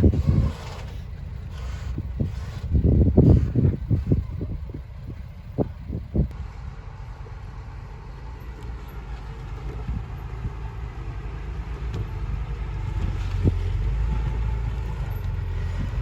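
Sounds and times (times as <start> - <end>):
diesel engine low rumble: 0.0 - 16.0.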